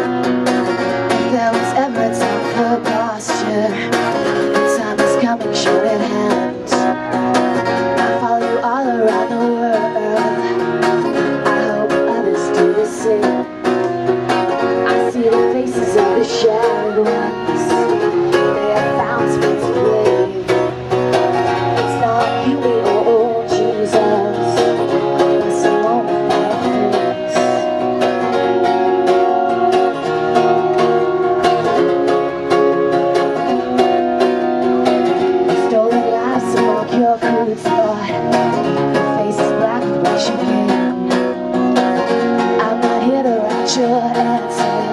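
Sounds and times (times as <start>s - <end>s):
live band playing: 0.0s - 44.9s
person singing: 0.0s - 44.9s
plucked strings: 0.0s - 44.9s.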